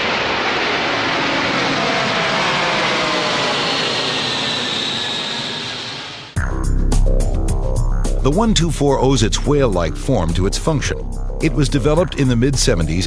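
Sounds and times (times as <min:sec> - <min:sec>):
jet engines passing: 0:00.0 - 0:06.4, 0:08.3 - 0:13.0.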